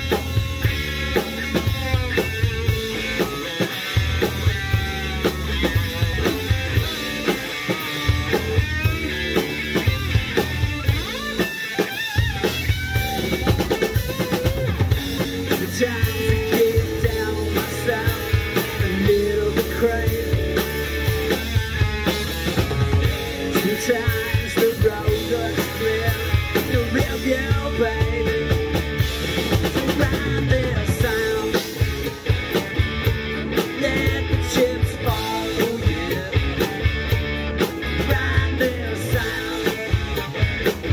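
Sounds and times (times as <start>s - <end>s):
bass guitar: 0.0s - 40.9s
driving drum beat: 0.0s - 40.9s
electric guitar: 0.0s - 40.9s.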